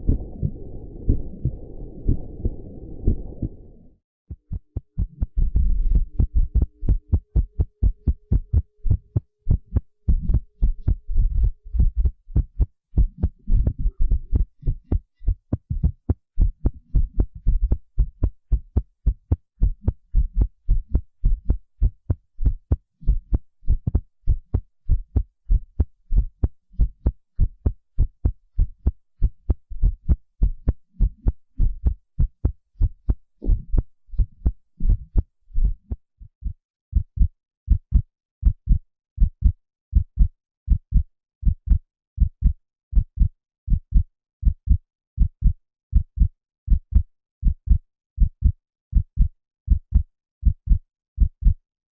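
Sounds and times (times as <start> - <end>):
heartbeat thumps: 0.0 - 3.8, 4.4 - 51.6.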